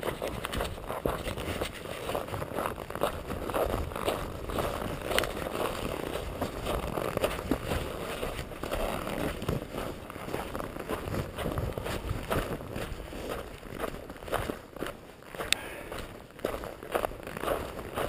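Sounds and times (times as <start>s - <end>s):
footsteps crunching through snow: 0.0s - 18.0s.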